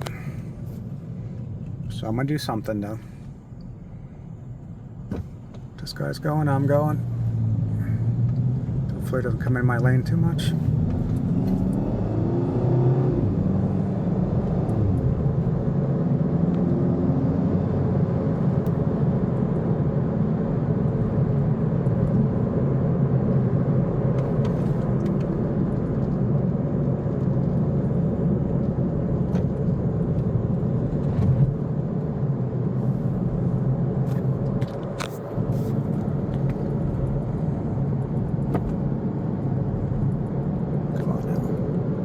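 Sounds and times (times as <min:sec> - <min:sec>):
car engine and tyre rumble: 0:00.0 - 0:42.0.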